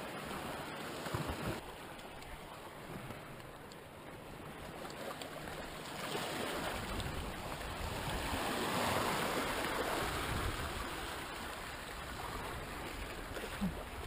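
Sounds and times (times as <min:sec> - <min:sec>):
sea waves against rocks: 0:00.0 - 0:14.0.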